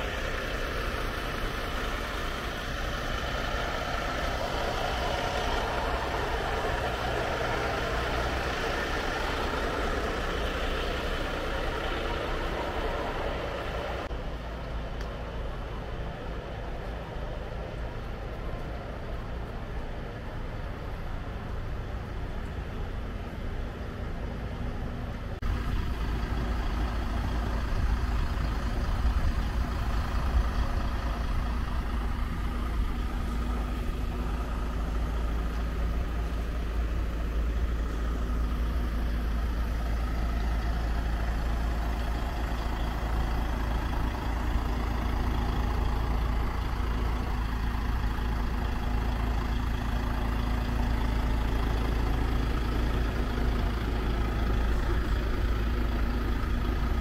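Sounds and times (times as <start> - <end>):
heavy engine idling: 0.0 - 57.0.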